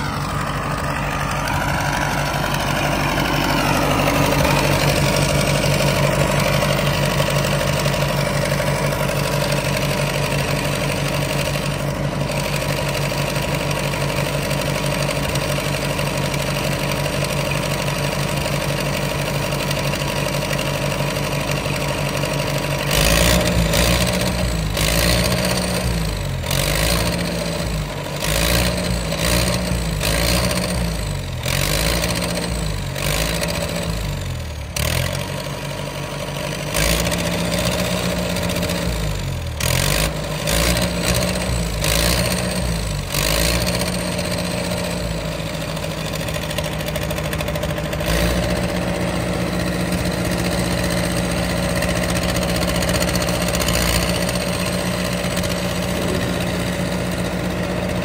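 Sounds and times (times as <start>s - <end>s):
engine firing with low pulses: 0.0s - 58.0s
track loader engine: 0.0s - 58.0s.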